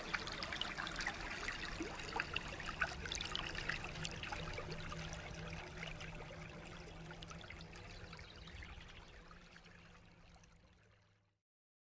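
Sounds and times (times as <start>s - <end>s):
low steady hum: 0.0s - 11.1s
water trickling and pouring: 0.0s - 11.3s.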